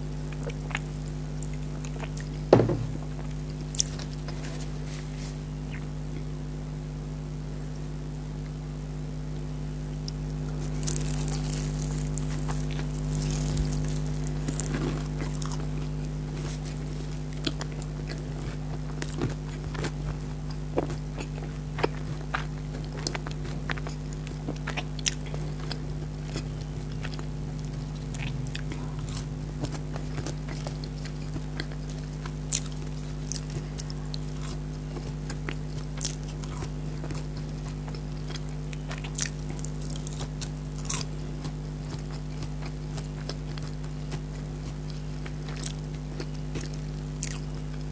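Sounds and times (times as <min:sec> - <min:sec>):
person chewing and crunching food: 0:00.0 - 0:06.4, 0:10.0 - 0:47.9
steady low hum: 0:00.0 - 0:47.9.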